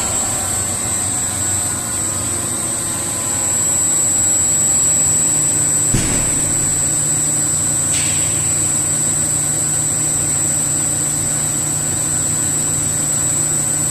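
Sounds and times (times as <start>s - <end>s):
air compressor humming and whining: 0.0s - 13.9s.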